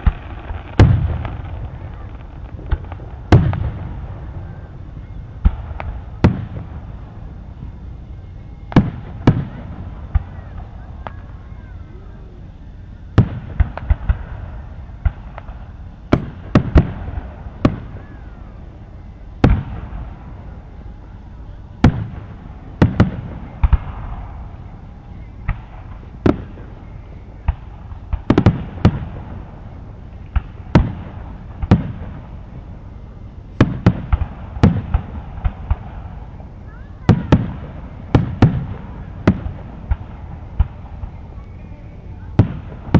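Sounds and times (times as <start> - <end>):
crowd murmur: 0.0 - 42.9
fireworks bangs and booms: 0.0 - 42.9.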